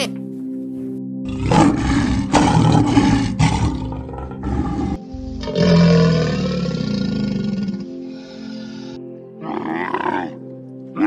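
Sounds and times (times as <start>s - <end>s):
background music: 0.0s - 11.0s
wild animal roaring: 1.3s - 10.4s.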